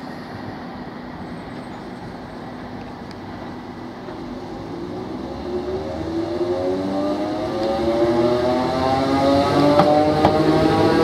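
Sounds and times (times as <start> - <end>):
train traction motors whining: 0.0 - 11.0
wheels rumbling on track: 0.0 - 11.0.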